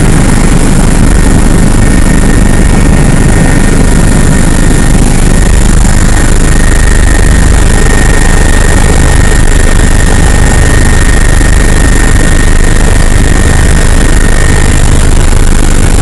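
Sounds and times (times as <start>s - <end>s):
helicopter engine and rotor noise: 0.0s - 16.0s.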